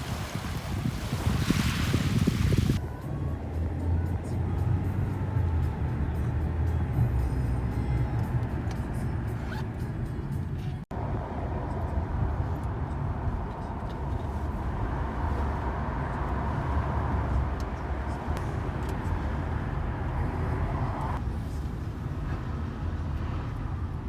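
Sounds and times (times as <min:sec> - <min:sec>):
moving vehicle rumble: 0:00.0 - 0:24.0.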